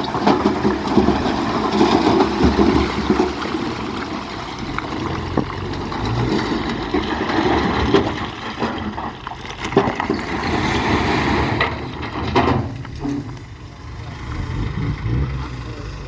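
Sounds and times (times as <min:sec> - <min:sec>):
knocks and rattles: 0:00.0 - 0:13.6
earthmoving machinery engine rumble: 0:00.0 - 0:16.0.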